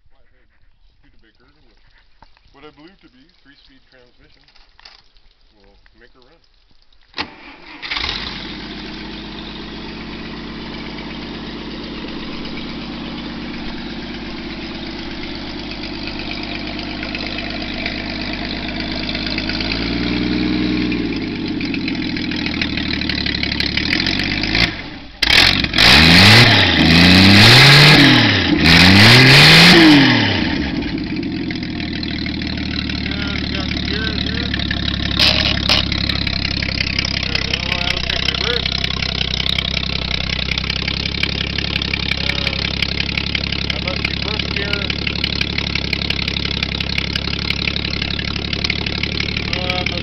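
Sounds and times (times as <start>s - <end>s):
engine running and revving: 7.9s - 50.0s.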